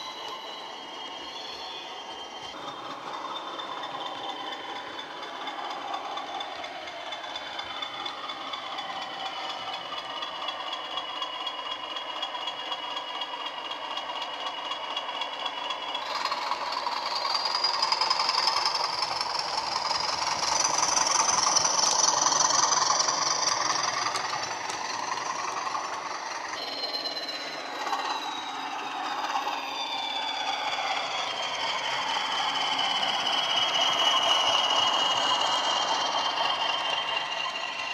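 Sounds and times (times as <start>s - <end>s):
model diesel engine sound: 0.0s - 37.9s.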